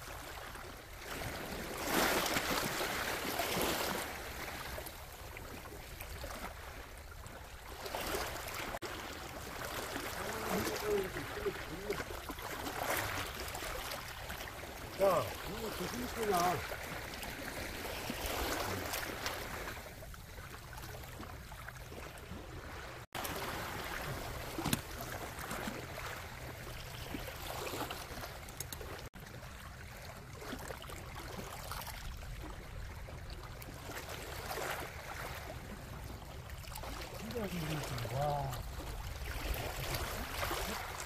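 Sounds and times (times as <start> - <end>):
sea water lapping against rocks: 0.0 - 41.0.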